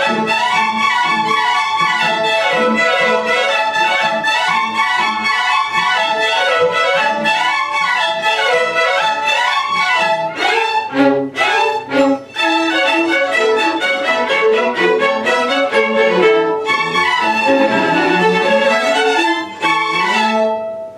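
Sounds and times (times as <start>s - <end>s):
string ensemble playing melody: 0.0s - 20.9s.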